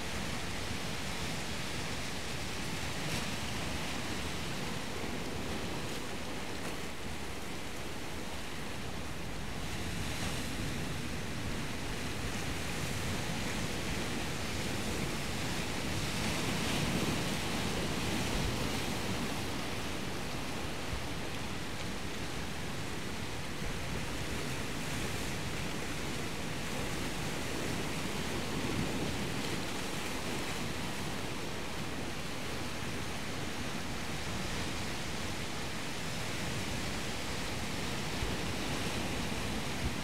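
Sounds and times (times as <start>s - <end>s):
surf washing onto shore: 0.0s - 40.0s.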